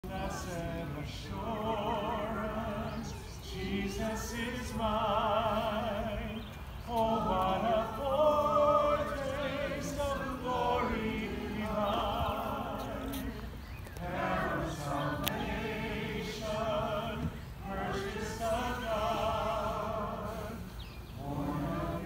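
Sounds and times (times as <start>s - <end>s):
church choir singing: 0.0s - 22.0s.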